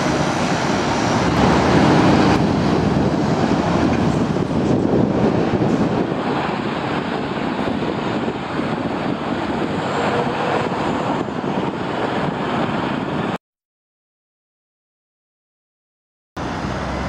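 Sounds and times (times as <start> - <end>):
diesel truck engines: 0.0 - 13.4, 16.4 - 17.0.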